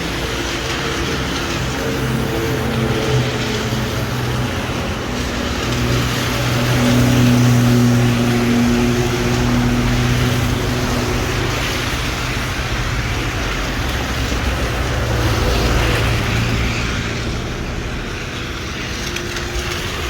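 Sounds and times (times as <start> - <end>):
rain hissing on wet street: 0.0 - 20.0.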